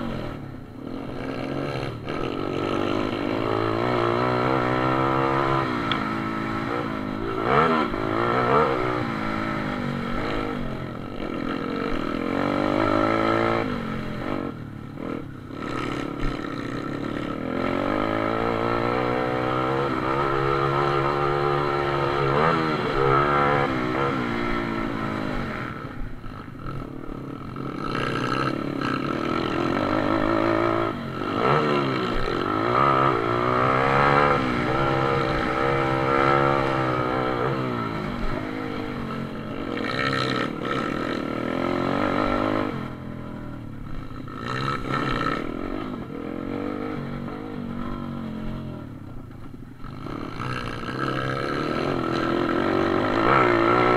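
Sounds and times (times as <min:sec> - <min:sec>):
small motorcycle engines revving: 0:00.0 - 0:53.9.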